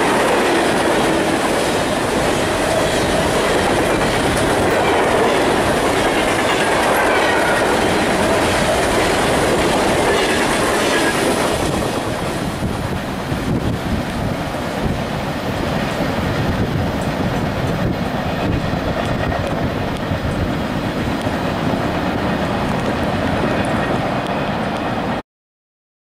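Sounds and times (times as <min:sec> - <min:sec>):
train wheels on rails: 0:00.0 - 0:25.2.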